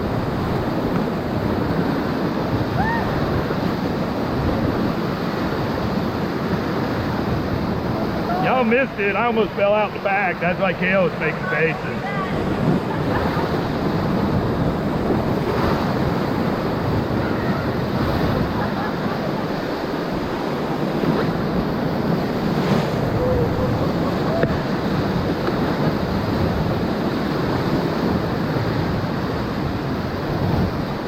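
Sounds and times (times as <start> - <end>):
whitewater rushing: 0.0 - 31.0.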